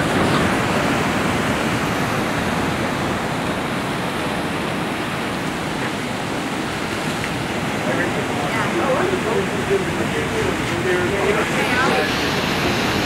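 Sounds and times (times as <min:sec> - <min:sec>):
ocean surf against sea wall: 0:00.0 - 0:13.0.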